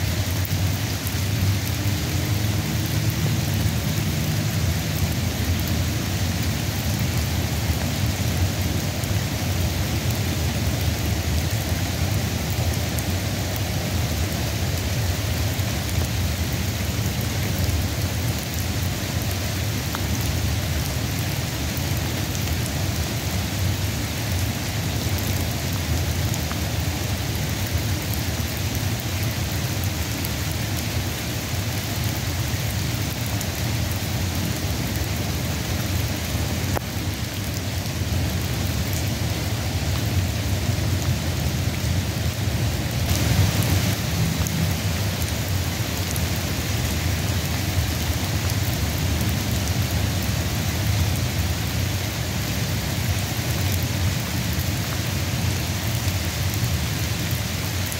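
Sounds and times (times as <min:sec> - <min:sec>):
rain hissing: 0:00.0 - 0:57.9.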